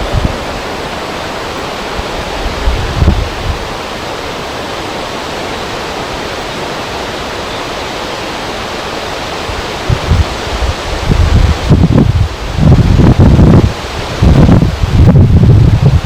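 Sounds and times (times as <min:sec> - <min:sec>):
rushing wind: 0:00.0 - 0:16.0
wind gusts buffeting microphone: 0:00.0 - 0:16.0.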